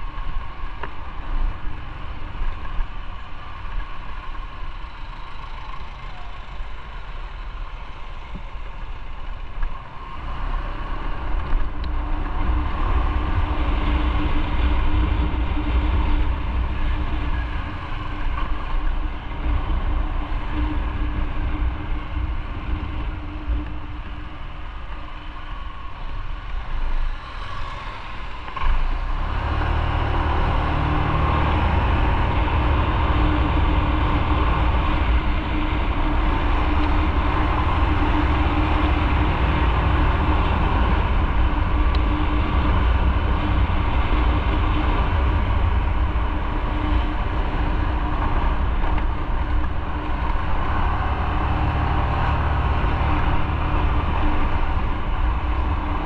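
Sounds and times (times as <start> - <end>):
motorcycle engine hum: 0.0 - 56.0
steady rushing noise: 0.0 - 56.0.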